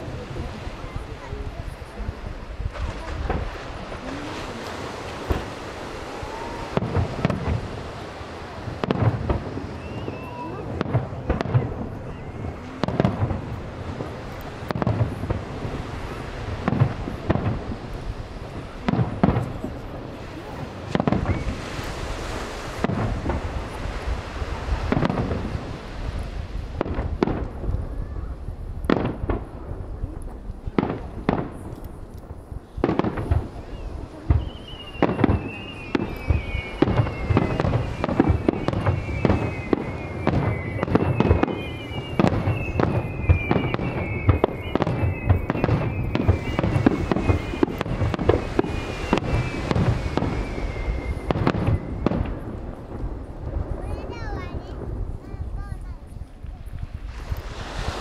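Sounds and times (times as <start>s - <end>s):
fireworks booming and crackling: 0.0s - 58.0s
falling firework whistles: 2.6s - 29.4s, 32.6s - 54.7s, 56.5s - 58.0s.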